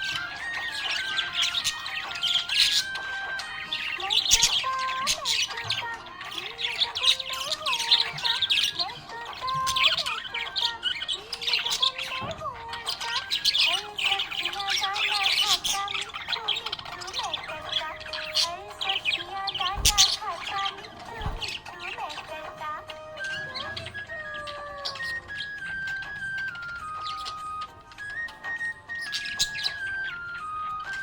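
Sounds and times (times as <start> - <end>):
budgerigars chirping: 0.0 - 31.0.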